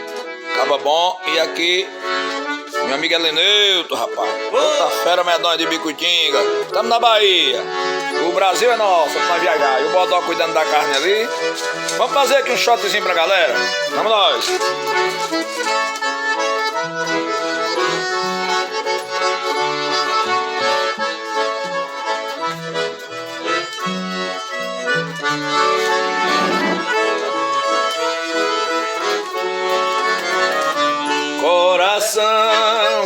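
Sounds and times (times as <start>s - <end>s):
accordions playing: 0.0s - 33.0s.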